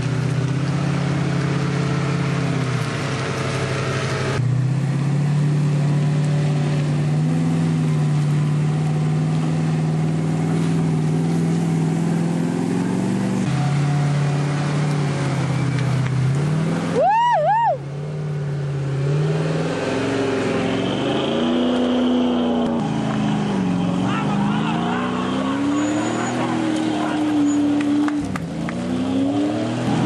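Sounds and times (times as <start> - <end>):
off-road engines under load: 0.0 - 30.0.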